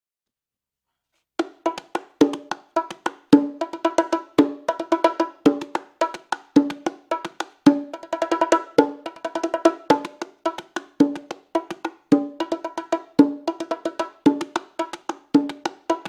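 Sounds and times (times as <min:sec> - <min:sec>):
bongos played by hand: 0:01.4 - 0:16.0.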